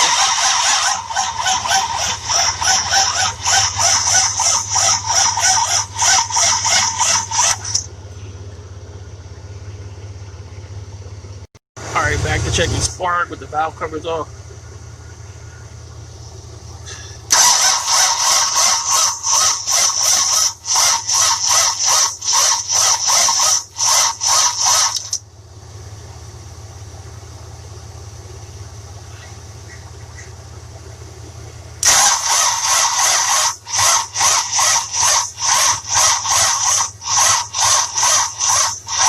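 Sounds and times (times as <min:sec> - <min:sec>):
engine cranking without starting: 0:00.0 - 0:39.0
steady low hum: 0:00.0 - 0:39.0.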